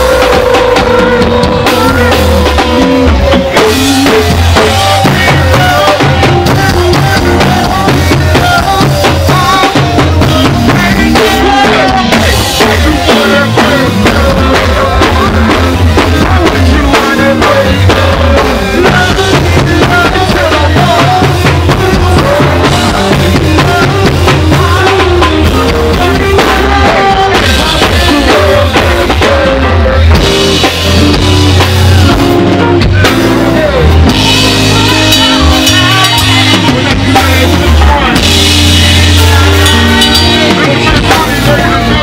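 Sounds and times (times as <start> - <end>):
people rapping and chanting: 0.0 - 31.0, 32.9 - 42.0
congas: 0.0 - 42.0
drum kit beat: 0.0 - 42.0.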